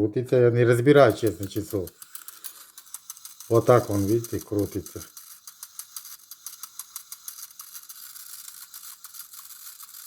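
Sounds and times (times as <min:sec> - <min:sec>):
alarm clock winding ratchet clicks: 0:00.7 - 0:10.0.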